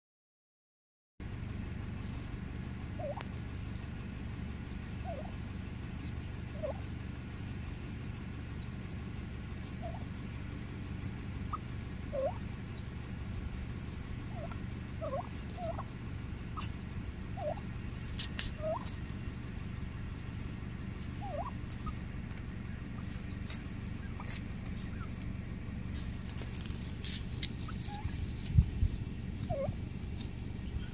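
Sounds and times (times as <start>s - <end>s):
low background rumble: 1.2s - 30.9s
wild turkeys trilling calls: 1.3s - 30.9s.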